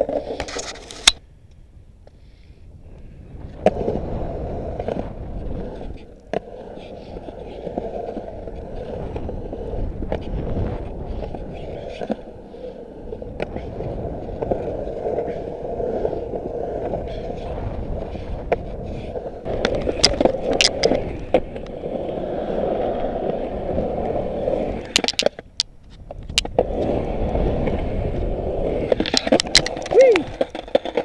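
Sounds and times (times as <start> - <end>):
skateboard wheels rolling on concrete: 0.0 - 31.0
skateboard clacks: 4.7 - 31.0.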